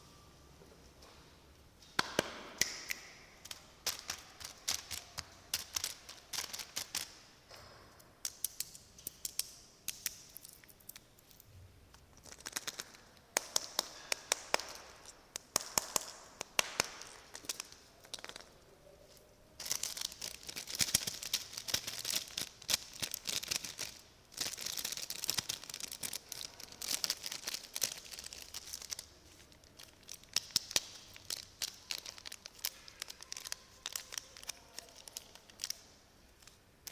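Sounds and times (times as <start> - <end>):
plastic wrappers crinkling: 2.6 - 7.3, 10.0 - 36.9.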